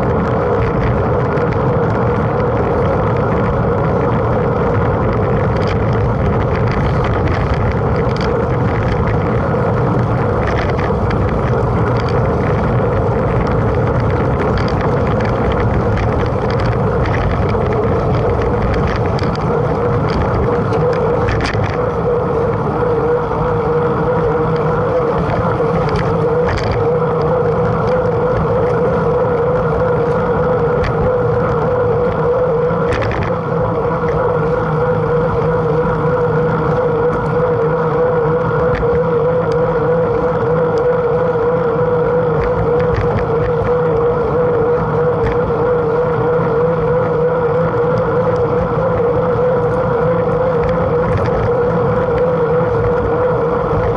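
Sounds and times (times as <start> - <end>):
bike rattles and clicks: 0.0 - 53.9
mountain bike rumble: 0.0 - 53.9
steady hum: 0.0 - 53.9
wind noise on camera: 0.0 - 53.9.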